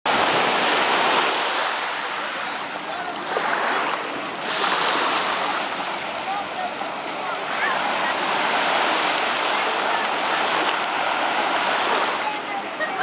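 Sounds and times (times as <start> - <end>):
surf washing onto sandy beach: 0.1 - 13.0.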